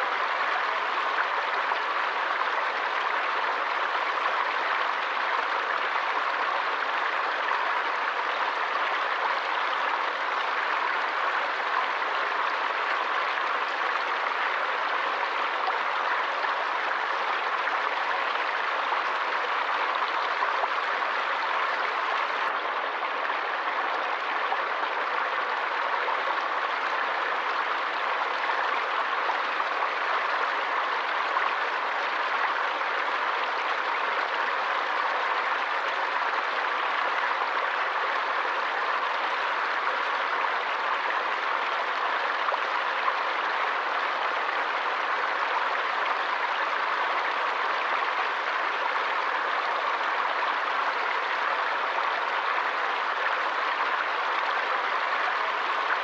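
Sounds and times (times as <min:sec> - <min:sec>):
water stream flowing: 0:00.0 - 0:56.0.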